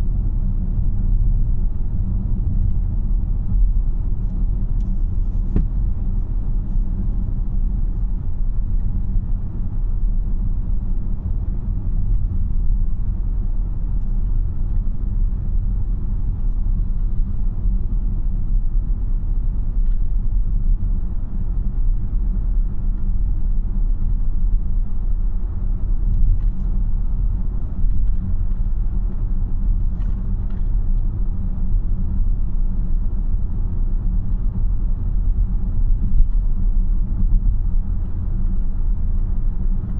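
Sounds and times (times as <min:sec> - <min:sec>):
road and tyre rumble in car cabin: 0:00.0 - 0:39.9.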